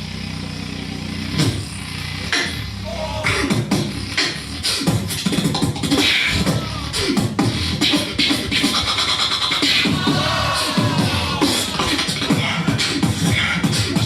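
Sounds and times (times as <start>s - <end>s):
person beatboxing: 1.3s - 14.0s.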